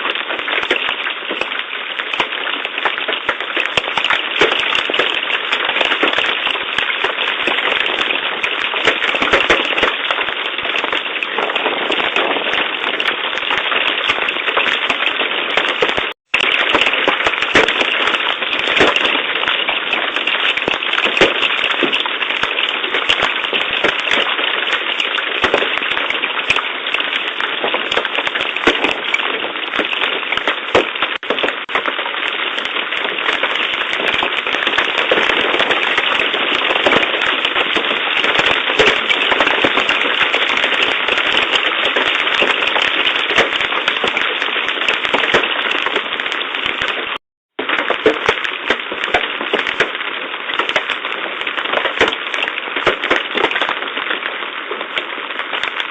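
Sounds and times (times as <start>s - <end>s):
sharp hailstone impacts: 0.0s - 47.0s, 47.6s - 53.8s
hailstones clattering: 0.0s - 55.9s.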